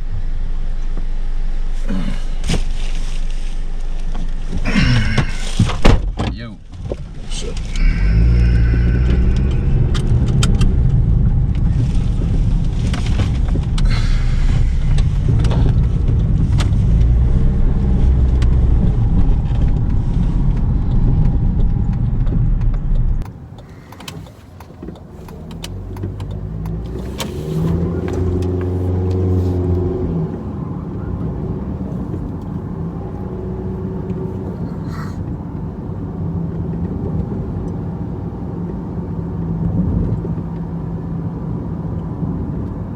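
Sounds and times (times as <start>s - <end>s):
car engine running: 0.0s - 42.9s
road noise: 0.0s - 42.9s.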